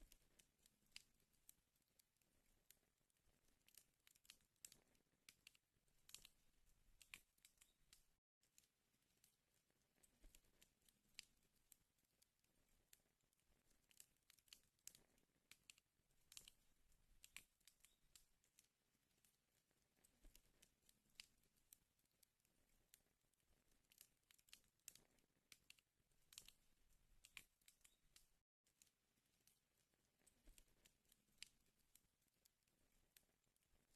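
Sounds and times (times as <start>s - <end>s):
wood fire crackling and popping: 0.0s - 33.7s.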